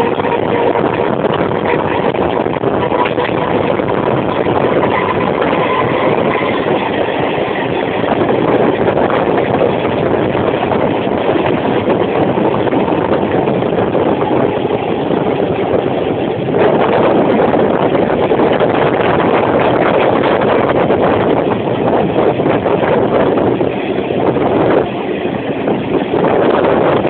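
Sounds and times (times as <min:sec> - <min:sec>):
rushing air: 0:00.0 - 0:27.0
train wheels rumbling on rails: 0:00.0 - 0:27.0.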